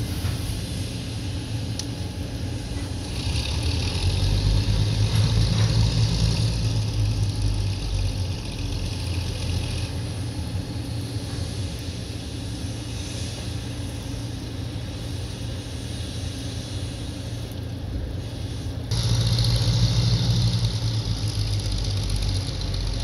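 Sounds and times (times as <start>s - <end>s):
diesel locomotive engine rumbling: 0.0s - 23.0s
steady hiss: 0.0s - 23.0s.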